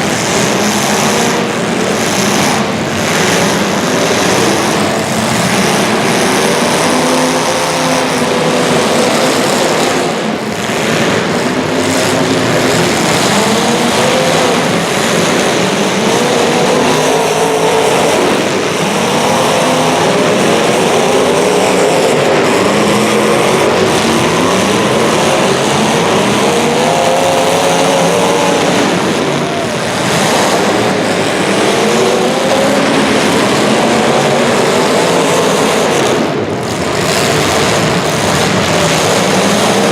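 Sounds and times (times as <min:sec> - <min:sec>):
small racing engines revving: 0:00.0 - 0:39.9.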